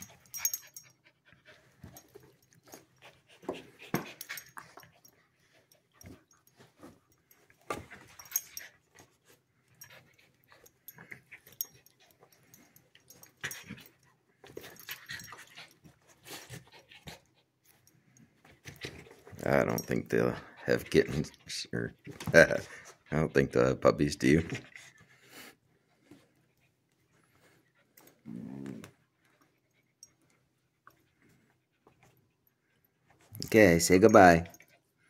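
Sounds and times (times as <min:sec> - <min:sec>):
dog noises: 0:00.0 - 0:33.4.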